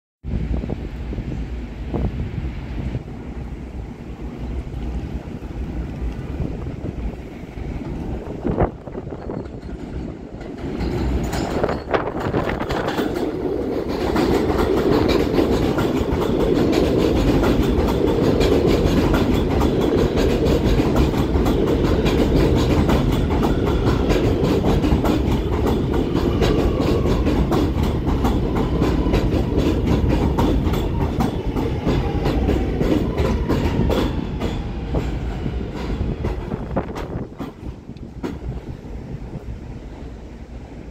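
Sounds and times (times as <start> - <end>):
train wheels rumbling on rail: 0.2 - 40.9
clickety-clack over rail joints: 4.6 - 40.2.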